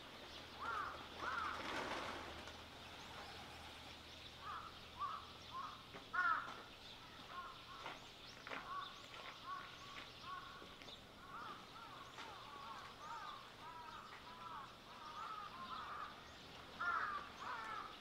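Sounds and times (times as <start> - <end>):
faint outdoor background noise: 0.0 - 18.0
rising and falling bird calls: 0.0 - 18.0.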